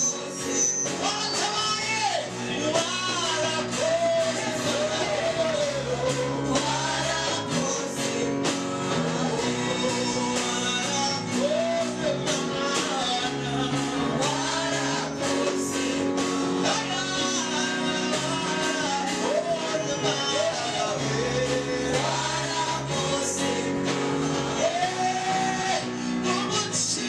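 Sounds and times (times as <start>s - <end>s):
amplified band with steady beat: 0.0s - 27.0s
backing vocalists singing: 0.0s - 27.0s
man singing lead: 0.0s - 27.0s.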